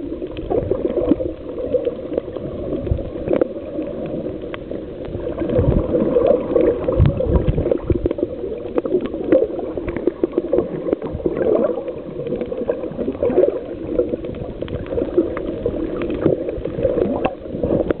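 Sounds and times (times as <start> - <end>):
muffled water gurgling: 0.0 - 18.0.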